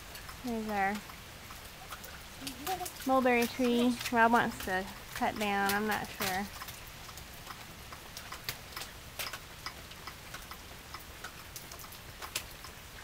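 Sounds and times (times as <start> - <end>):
faint rain hiss: 0.0 - 13.0
raindrops dripping: 0.0 - 13.0.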